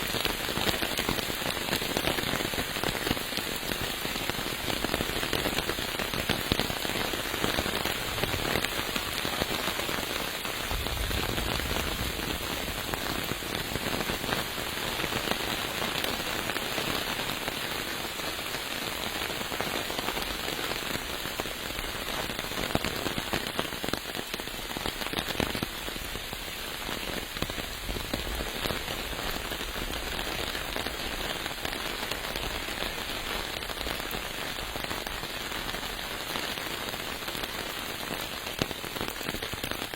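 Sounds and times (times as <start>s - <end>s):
rain falling: 0.0s - 39.9s
raindrops hitting close by: 0.0s - 39.9s.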